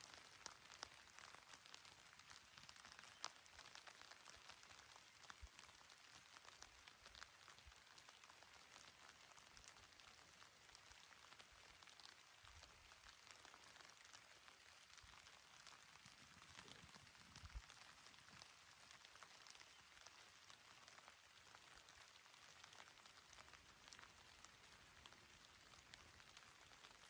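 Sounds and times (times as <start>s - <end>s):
gentle rain on grass: 0.0s - 27.0s.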